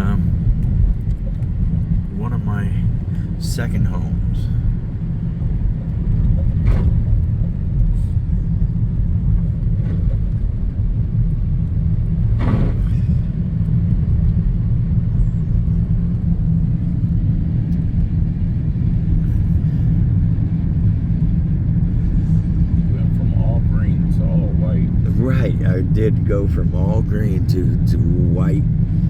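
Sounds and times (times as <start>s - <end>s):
road rumble inside car: 0.0s - 29.0s.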